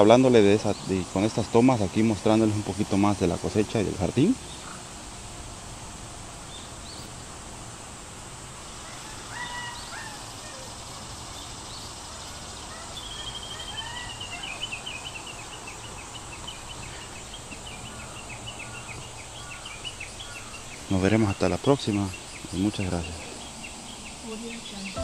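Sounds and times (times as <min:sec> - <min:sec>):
birds chirping: 0:00.0 - 0:25.0
outdoor background noise: 0:00.0 - 0:25.0.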